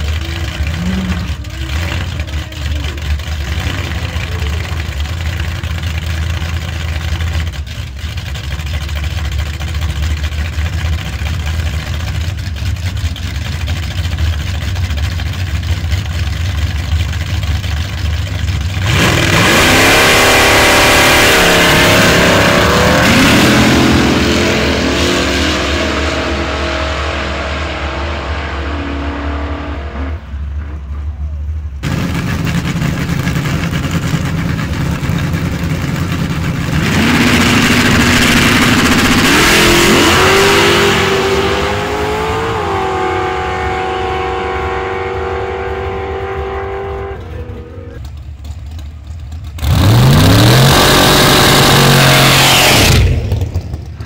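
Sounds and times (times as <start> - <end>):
drag racing cars accelerating: 0.0 - 54.0.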